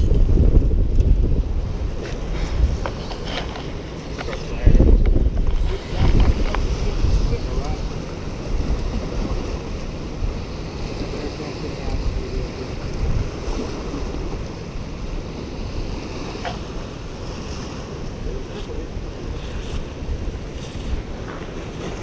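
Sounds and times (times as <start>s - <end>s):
waves breaking against rocks: 0.0s - 22.0s
wind buffeting microphone: 0.0s - 22.0s.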